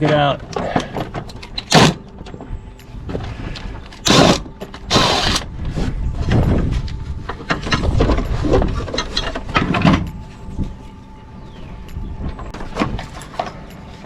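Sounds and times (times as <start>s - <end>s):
tools and metal clattering: 0.0s - 5.4s, 6.2s - 11.0s, 12.3s - 14.0s.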